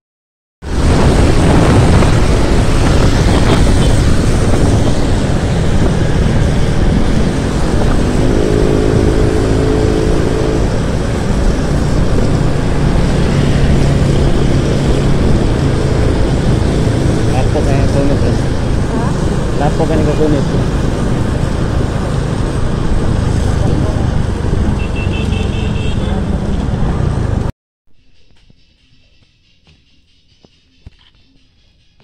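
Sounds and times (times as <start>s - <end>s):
motorcycle engine: 0.6s - 27.5s
wind and road noise: 0.6s - 27.5s.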